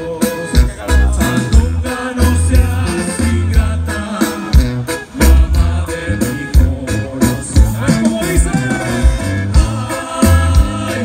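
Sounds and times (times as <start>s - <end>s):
live band over outdoor pa: 0.0s - 11.0s
person singing: 0.0s - 11.0s.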